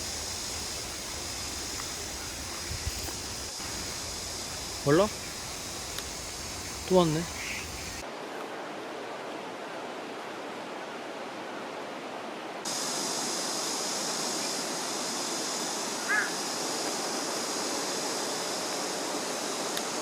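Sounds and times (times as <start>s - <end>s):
steady high hiss: 0.0s - 20.0s
stream water rushing: 0.0s - 20.0s.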